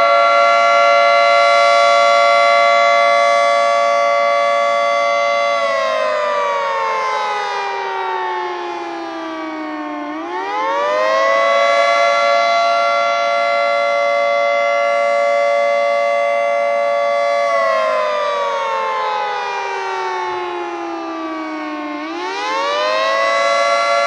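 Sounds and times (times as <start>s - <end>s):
wailing dual-tone warning siren: 0.0s - 24.0s.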